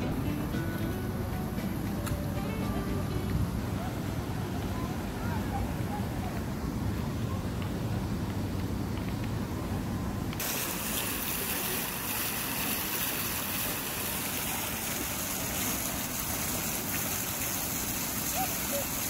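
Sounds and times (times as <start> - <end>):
fountain water jets splashing: 0.0 - 9.8, 10.4 - 19.0.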